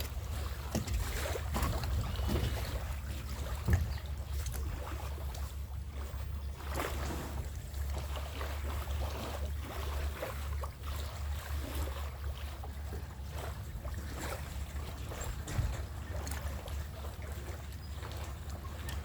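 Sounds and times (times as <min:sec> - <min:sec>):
boat engine low rumble: 0:00.0 - 0:19.0
water splashes and knocks: 0:00.0 - 0:19.0.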